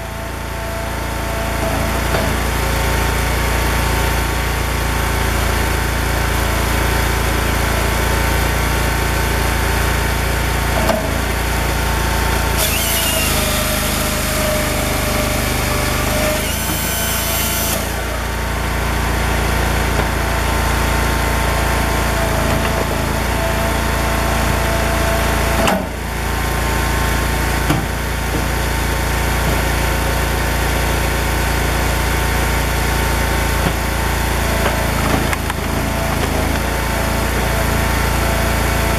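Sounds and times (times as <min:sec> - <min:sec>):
chainsaw cutting through log: 0:00.0 - 0:38.9
engine drone: 0:00.0 - 0:38.9.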